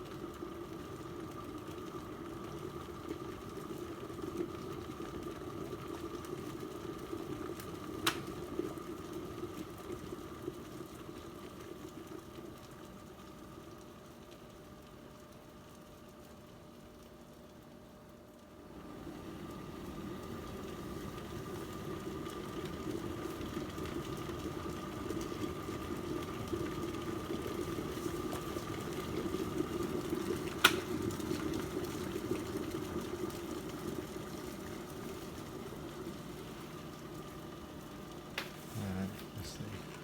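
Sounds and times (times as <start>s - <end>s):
electric kettle boiling water: 0.0s - 40.0s.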